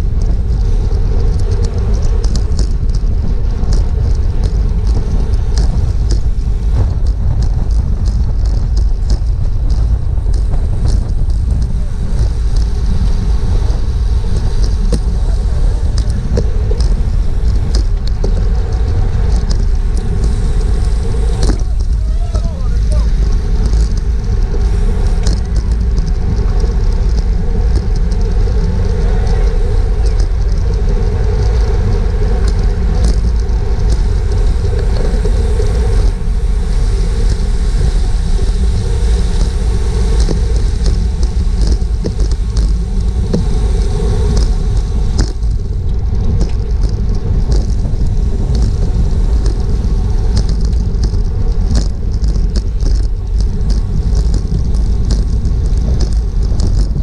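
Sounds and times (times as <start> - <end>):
wind rumbling over microphone: 0.0 - 57.0.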